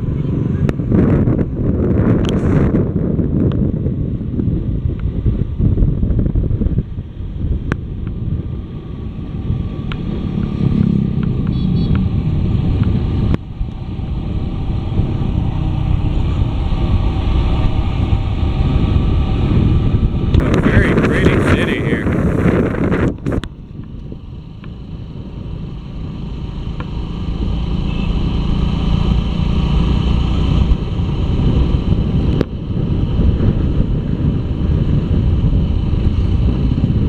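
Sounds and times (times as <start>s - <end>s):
motorcycle engine running: 0.0s - 37.0s
wind and road noise: 0.0s - 37.0s.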